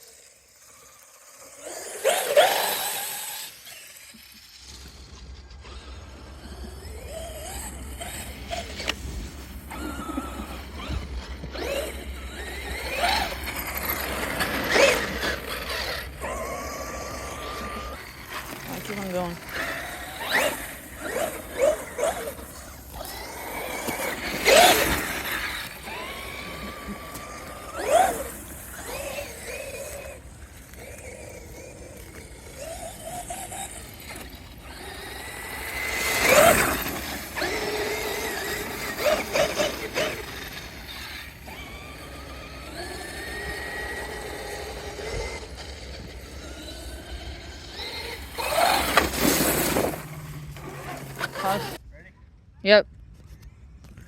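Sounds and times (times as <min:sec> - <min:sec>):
rc car drivetrain whining: 0:00.0 - 0:51.8.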